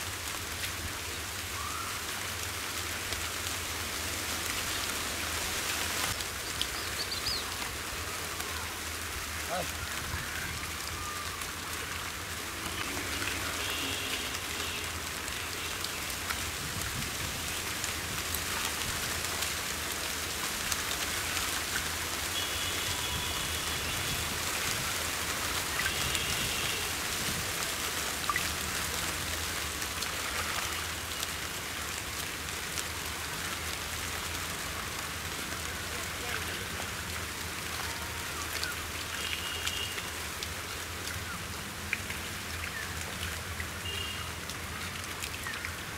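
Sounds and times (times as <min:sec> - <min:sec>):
muddy water trickling: 0:00.0 - 0:45.9.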